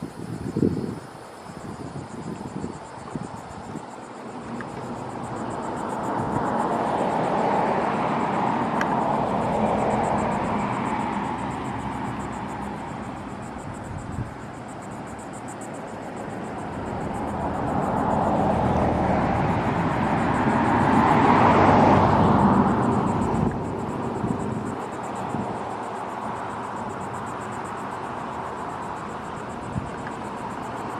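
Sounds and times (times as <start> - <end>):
pulsing insect chorus: 0.0 - 30.9
vehicle passing by: 4.3 - 14.1, 15.0 - 30.9.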